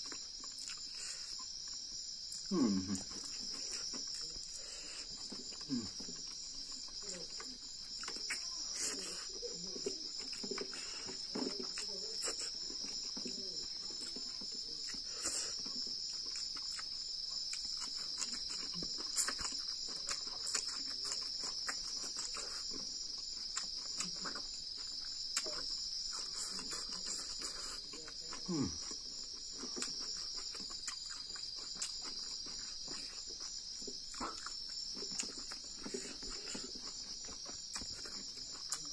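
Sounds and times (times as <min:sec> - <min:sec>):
night insects chorus: 0:00.0 - 0:38.9
wet chewing and sucking sounds: 0:00.0 - 0:38.9.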